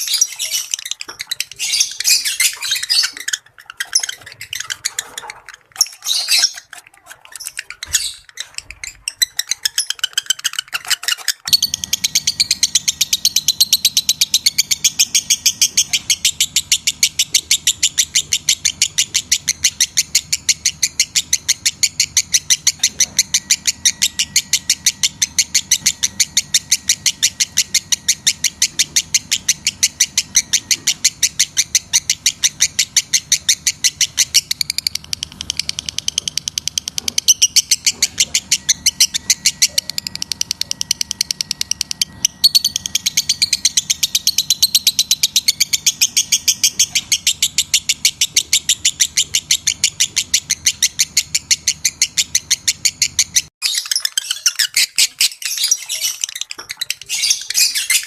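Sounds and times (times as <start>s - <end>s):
lovebird chirping shrilly: 0.0s - 6.7s, 7.4s - 58.0s.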